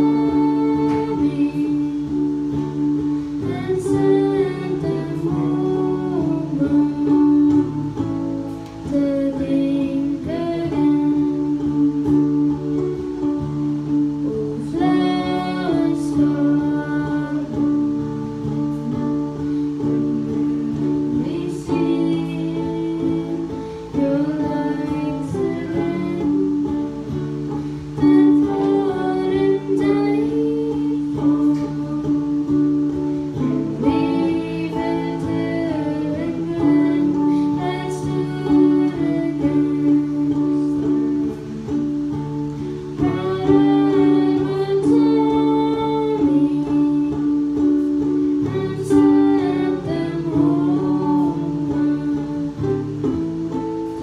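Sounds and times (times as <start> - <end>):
acoustic guitars: 0.0 - 54.0
person singing: 0.0 - 54.0.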